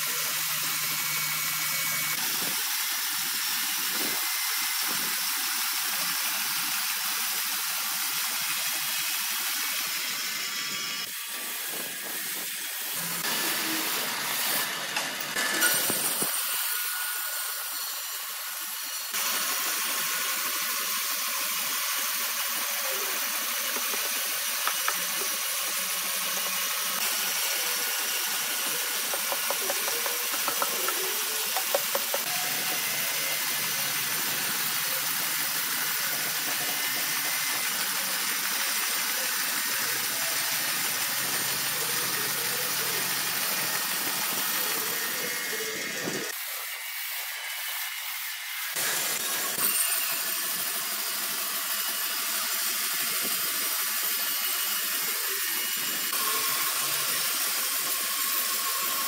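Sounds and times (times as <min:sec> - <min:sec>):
band saw cutting through log: 0:00.0 - 0:59.0.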